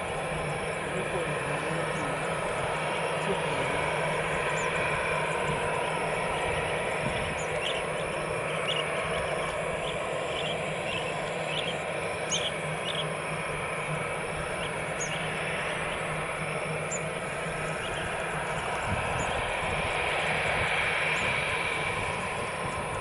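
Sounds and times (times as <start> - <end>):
jet engines humming: 0.0 - 23.0
small birds chirping: 0.0 - 23.0.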